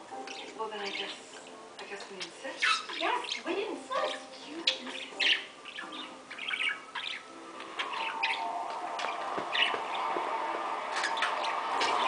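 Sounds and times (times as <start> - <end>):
bird chirping: 0.1 - 12.0.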